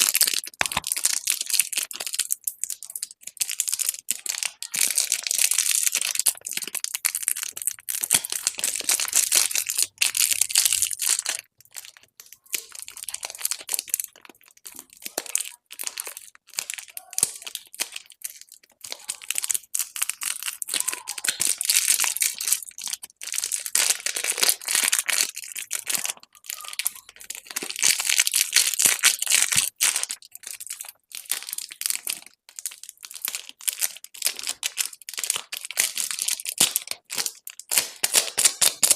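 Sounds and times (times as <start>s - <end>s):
plastic wrappers crinkling and tearing: 0.0s - 38.9s.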